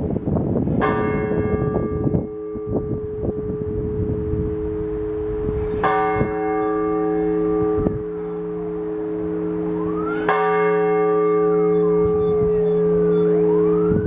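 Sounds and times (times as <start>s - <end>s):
church bell clanging: 0.7s - 14.0s
large bell humming: 0.8s - 14.0s.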